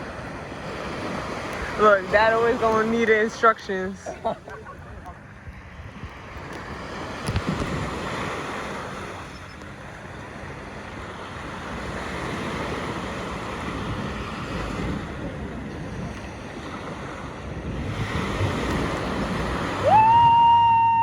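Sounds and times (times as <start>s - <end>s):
sea surf rushing: 0.0s - 21.0s
wind buffeting microphone: 0.0s - 21.0s.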